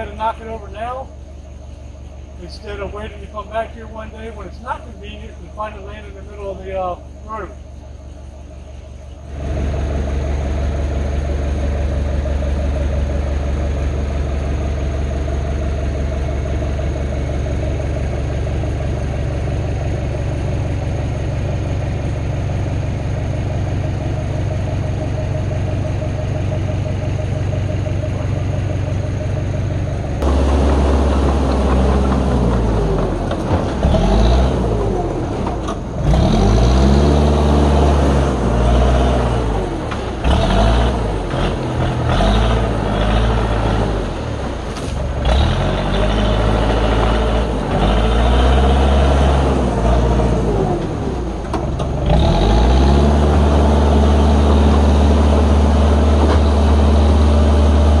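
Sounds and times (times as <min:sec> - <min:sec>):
diesel engine idling and revving: 0:00.0 - 0:58.0.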